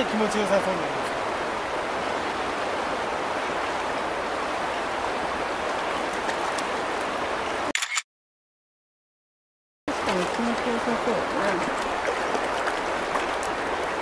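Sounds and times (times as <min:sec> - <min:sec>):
river water rushing: 0:00.0 - 0:07.7, 0:09.9 - 0:14.0.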